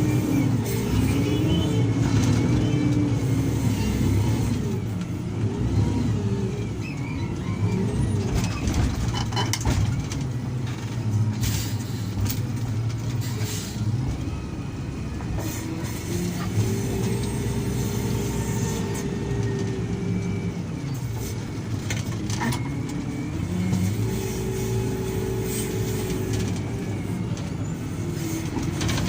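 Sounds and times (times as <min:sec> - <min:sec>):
diesel earthmoving machinery engine: 0:00.0 - 0:29.0.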